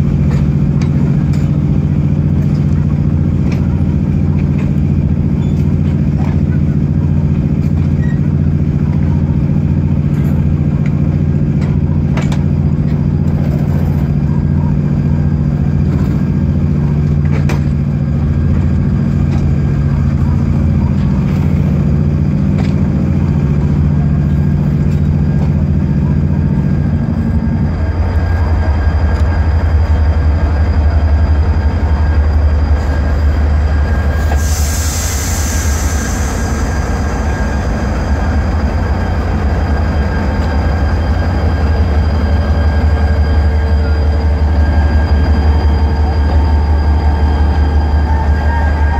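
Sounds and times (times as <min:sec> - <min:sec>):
diesel locomotive engine running: 0:00.0 - 0:48.9.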